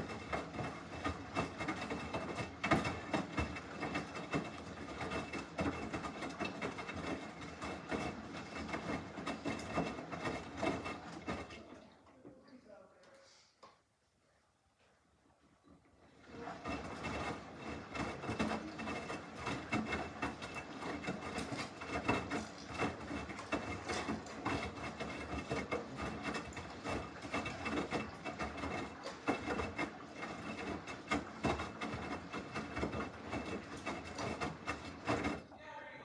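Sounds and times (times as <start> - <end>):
washing machine churning clothes: 0.0 - 12.8, 15.2 - 36.0.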